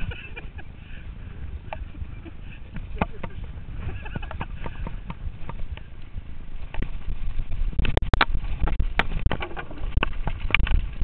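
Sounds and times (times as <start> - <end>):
wind and riding rumble: 0.0 - 11.0.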